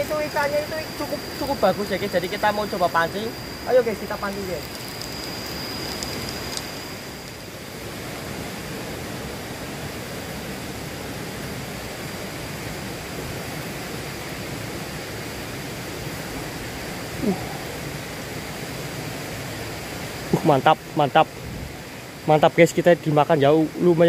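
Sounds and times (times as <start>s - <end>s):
stream water rushing: 0.0s - 24.0s
thin high whine: 0.0s - 24.0s.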